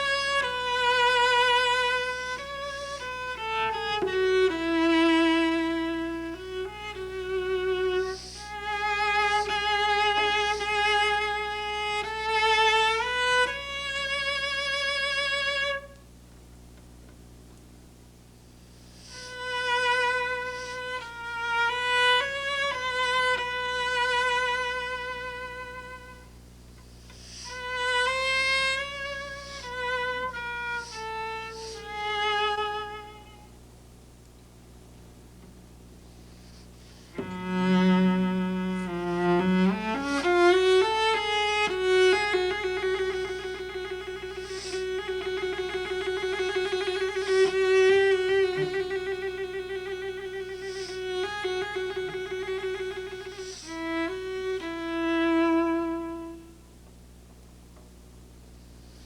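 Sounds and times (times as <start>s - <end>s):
solo cello with vibrato: 0.0s - 16.0s, 19.0s - 26.4s, 27.1s - 33.5s, 36.4s - 56.7s.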